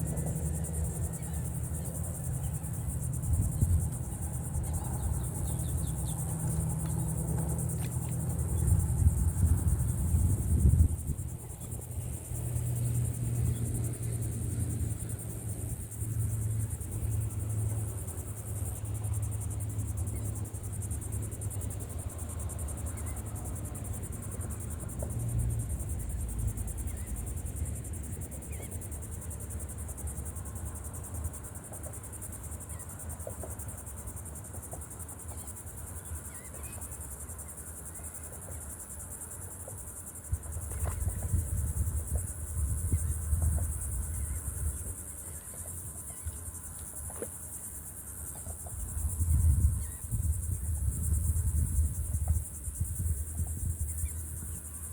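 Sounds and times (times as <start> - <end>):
crickets chirring: 0.0 - 54.9.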